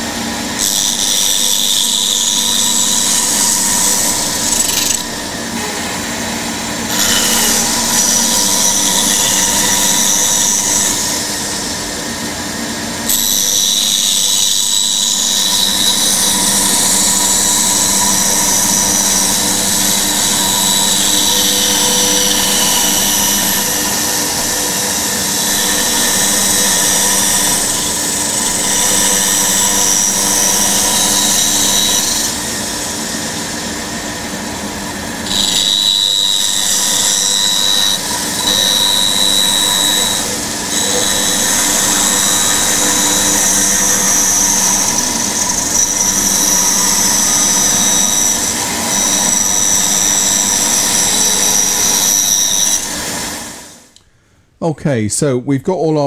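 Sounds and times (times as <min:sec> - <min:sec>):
bandsaw cutting wood: 0:00.0 - 0:34.2, 0:34.8 - 0:53.9.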